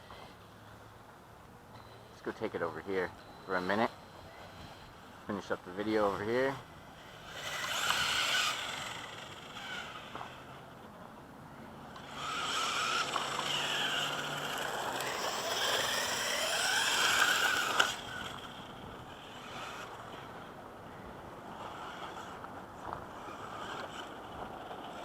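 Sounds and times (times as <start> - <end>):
rc car motor whining: 2.5 - 10.8, 11.7 - 25.0.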